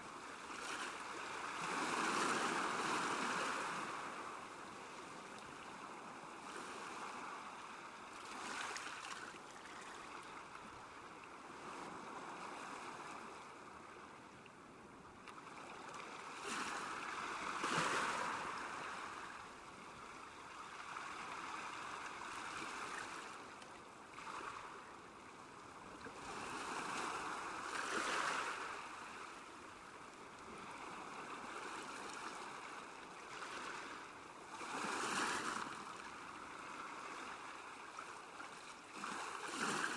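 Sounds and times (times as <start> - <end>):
small waves washing on shore: 0.0 - 14.4, 15.2 - 39.9.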